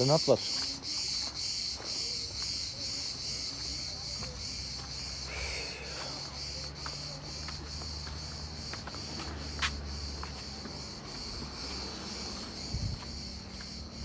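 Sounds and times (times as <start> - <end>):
cicadas singing: 0.0 - 14.0.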